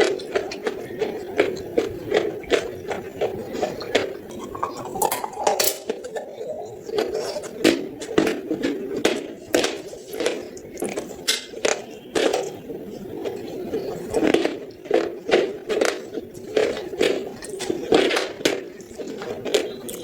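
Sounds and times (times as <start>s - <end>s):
chewing with sharp crunches: 0.0s - 20.0s.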